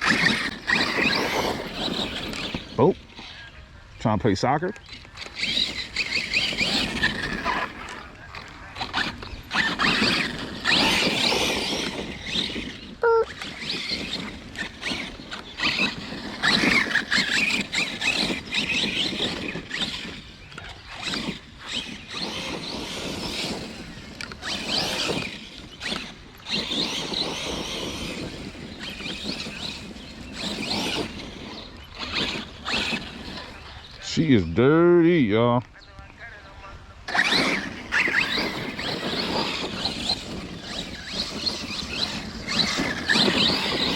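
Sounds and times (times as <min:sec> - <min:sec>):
tyre noise: 0:00.0 - 0:03.0, 0:04.8 - 0:34.4, 0:37.1 - 0:43.9
rc truck motor whining: 0:00.0 - 0:04.0, 0:04.6 - 0:34.3, 0:37.0 - 0:43.9.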